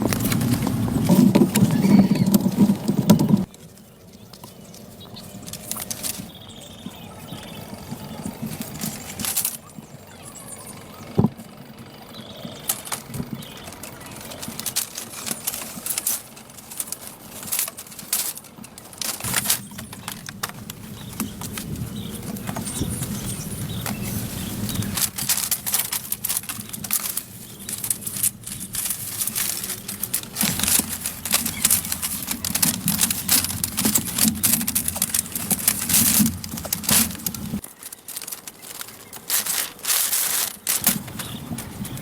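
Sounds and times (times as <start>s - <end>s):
scraping: 0.0s - 10.0s, 12.3s - 42.0s
low steady hum: 0.0s - 42.0s.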